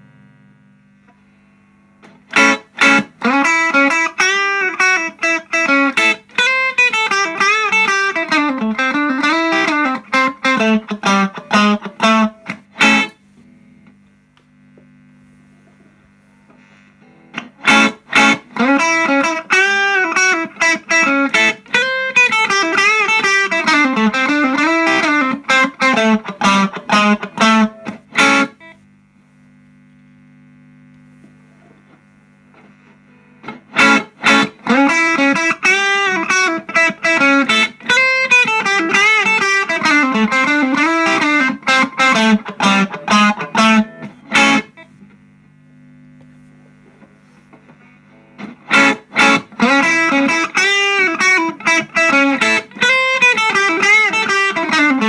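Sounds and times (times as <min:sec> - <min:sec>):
faint amp hum: 0:00.0 - 0:55.0
overdriven electric guitar: 0:00.0 - 0:55.0.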